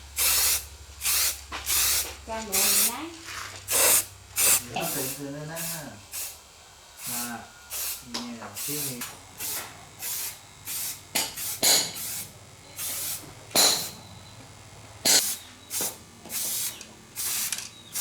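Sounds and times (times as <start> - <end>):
spray hissing in short bursts: 0.2 - 6.4, 7.0 - 13.8, 15.0 - 18.0.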